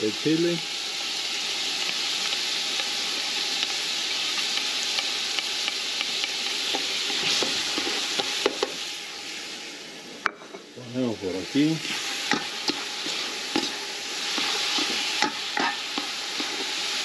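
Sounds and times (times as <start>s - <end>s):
onion sizzling in a pot: 0.0s - 17.0s.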